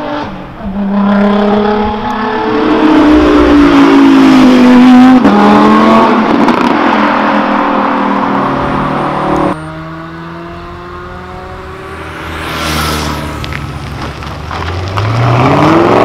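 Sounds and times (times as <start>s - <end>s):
sports car accelerating hard: 0.0s - 16.0s.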